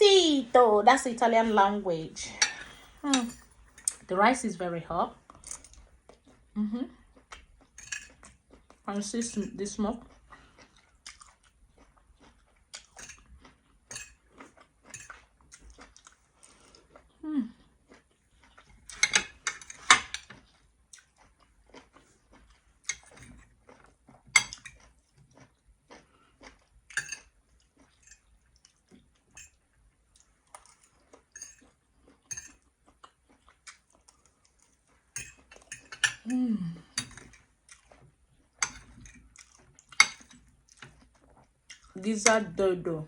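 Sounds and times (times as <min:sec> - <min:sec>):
chewing food: 0:05.1 - 0:42.4.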